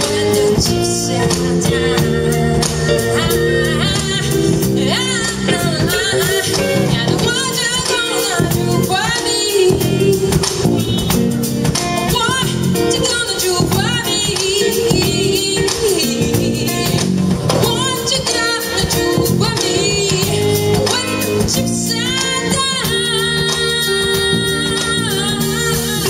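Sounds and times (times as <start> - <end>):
woman singing: 0.0 - 11.4, 12.0 - 26.0
drum kit: 0.0 - 26.0
electric bass: 0.0 - 26.0
electric guitar: 0.0 - 26.0.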